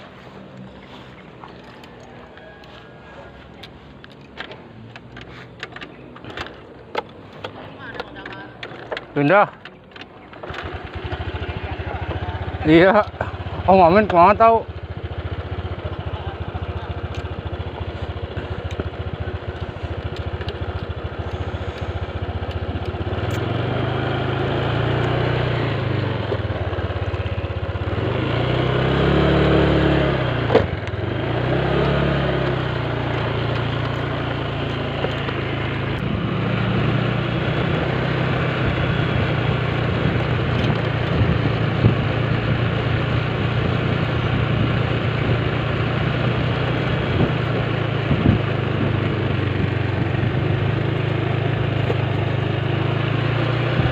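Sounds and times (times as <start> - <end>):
scooter engine revving: 0.0 - 53.9.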